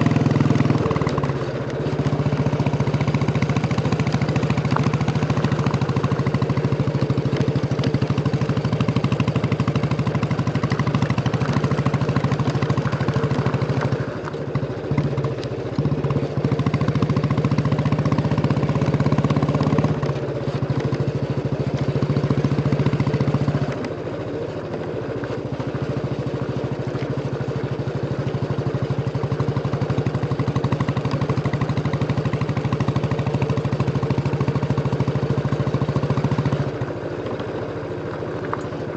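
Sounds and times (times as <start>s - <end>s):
motorcycle engine thumping: 0.0s - 24.0s, 24.8s - 38.9s.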